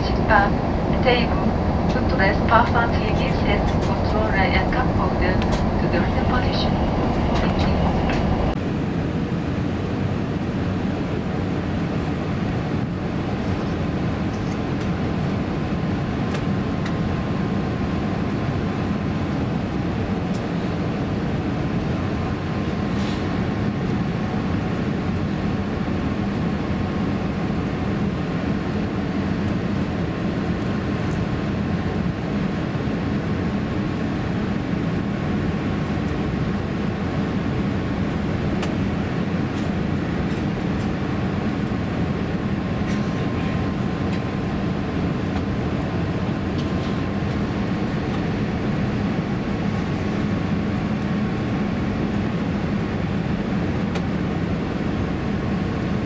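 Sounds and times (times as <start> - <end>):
airliner cabin rumble: 0.0 - 56.0
faint steady whine: 0.0 - 56.0.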